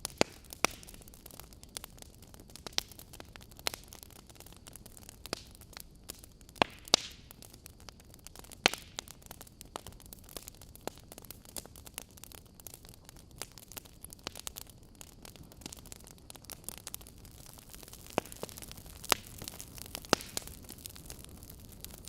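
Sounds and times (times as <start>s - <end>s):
fire crackling and popping: 0.0s - 22.0s
soft steady hiss: 0.0s - 22.0s.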